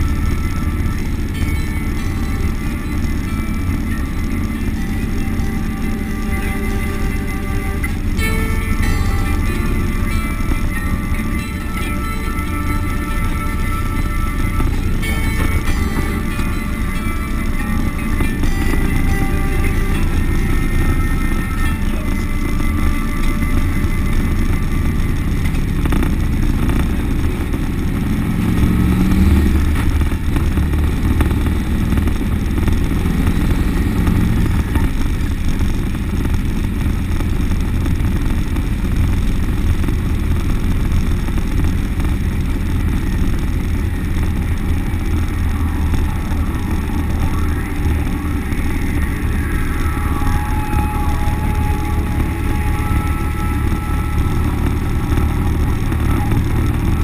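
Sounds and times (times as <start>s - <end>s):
truck exhaust drone from inside cab: 0.0s - 57.0s.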